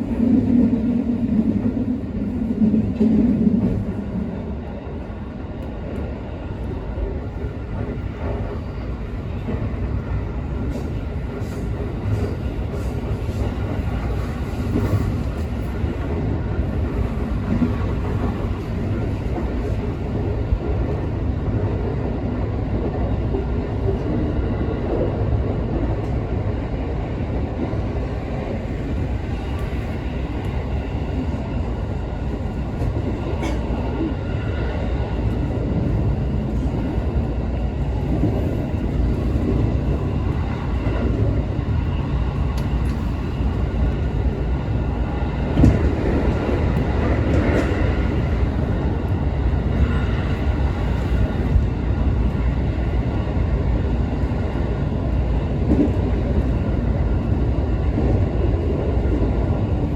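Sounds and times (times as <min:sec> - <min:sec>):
electric train rumbling on track: 0:00.0 - 0:59.9.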